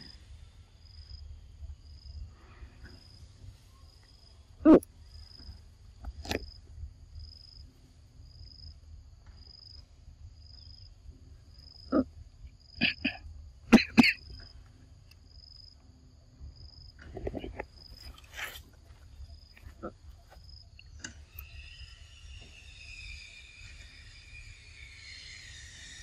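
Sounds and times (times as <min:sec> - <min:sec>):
insect chirping: 0:00.0 - 0:26.0.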